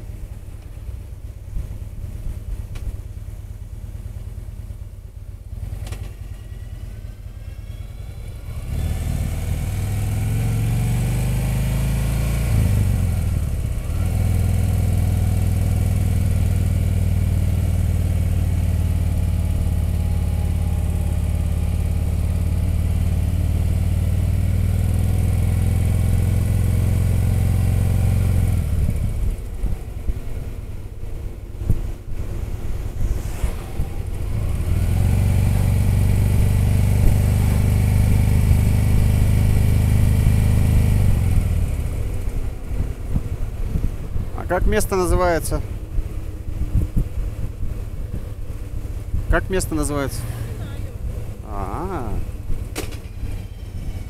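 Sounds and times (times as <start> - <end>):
motorcycle engine: 1.8 - 54.0.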